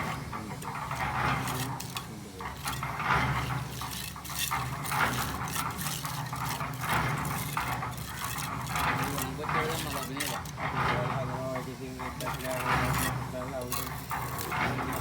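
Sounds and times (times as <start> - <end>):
wet concrete scraping and sloshing: 0.6 - 15.0.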